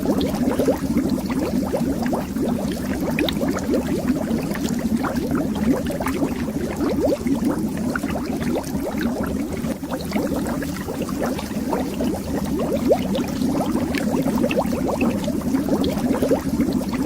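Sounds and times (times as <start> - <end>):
bubbles streaming underwater: 0.0 - 17.0.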